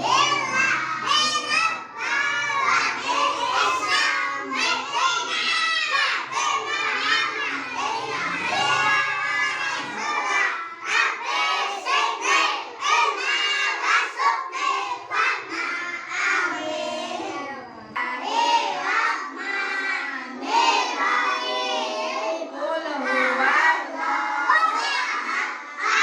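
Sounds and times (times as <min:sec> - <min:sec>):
young children singing: 0:00.0 - 0:26.0.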